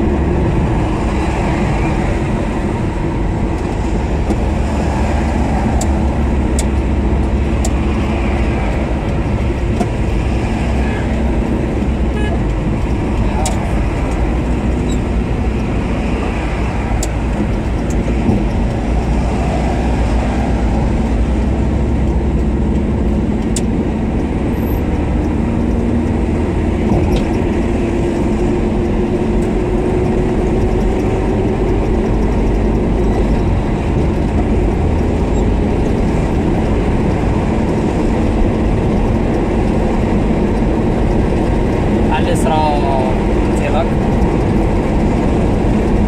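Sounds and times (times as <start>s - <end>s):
car engine and road noise inside cabin: 0.0s - 46.0s.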